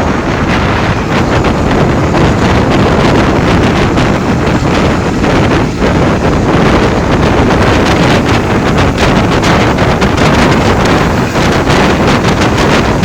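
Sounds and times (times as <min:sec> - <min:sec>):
moving passenger train: 0:00.0 - 0:13.0
wind buffeting the microphone: 0:00.0 - 0:13.0.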